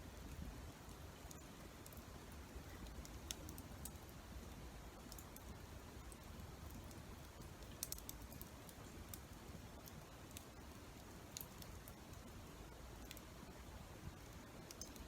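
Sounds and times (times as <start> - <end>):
faint campfire crackling: 0.0 - 15.0.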